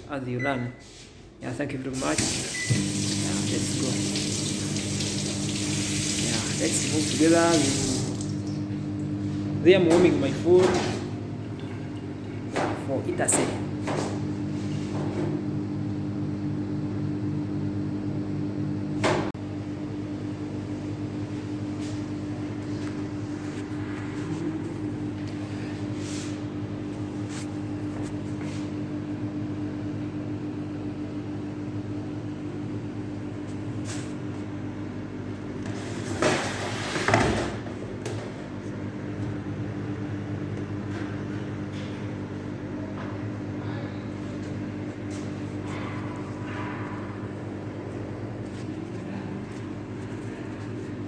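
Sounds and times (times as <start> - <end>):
microwave oven humming: 0.1 - 51.0.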